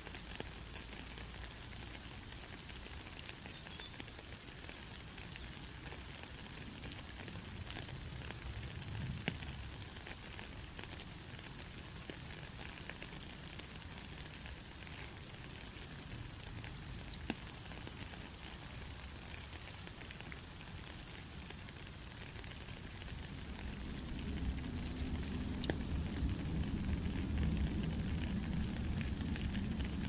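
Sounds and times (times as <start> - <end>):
light crackles: 0.0 - 30.0
white noise hiss: 0.0 - 30.0.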